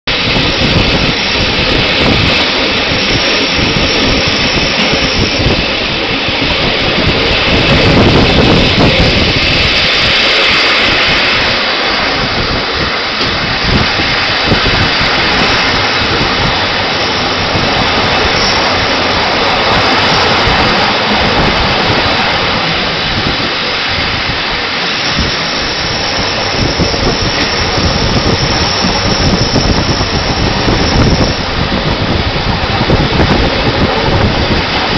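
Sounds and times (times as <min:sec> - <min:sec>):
train wheels rushing on rails: 0:00.0 - 0:34.9.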